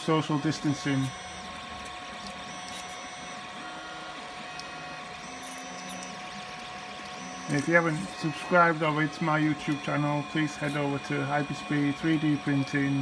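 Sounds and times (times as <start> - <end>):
steady printer hum: 0.0 - 13.0
stepper motors whining: 0.0 - 13.0.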